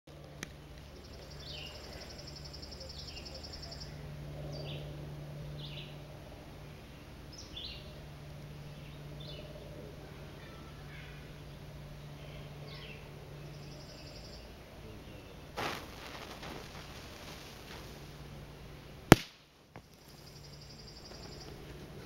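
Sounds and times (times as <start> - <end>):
birds chirping: 0.1 - 19.1, 19.8 - 22.0
steady low hum: 0.1 - 22.0.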